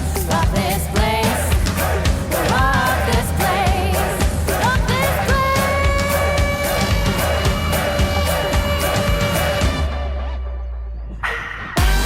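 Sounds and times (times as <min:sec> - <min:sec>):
pop song with singing: 0:00.0 - 0:10.4.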